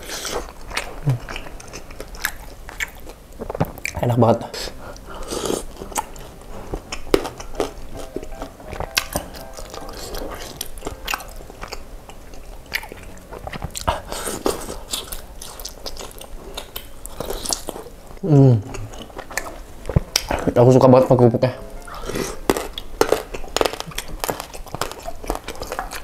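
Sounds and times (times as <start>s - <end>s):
chewing and biting mouth sounds: 0.0s - 20.6s, 21.8s - 26.0s
crackers crunching: 0.0s - 20.9s, 21.6s - 26.0s.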